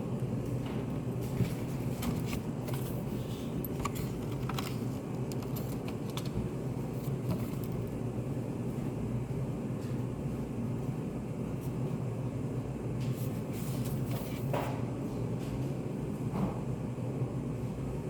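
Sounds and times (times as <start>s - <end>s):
ventilation hum: 0.0s - 18.0s.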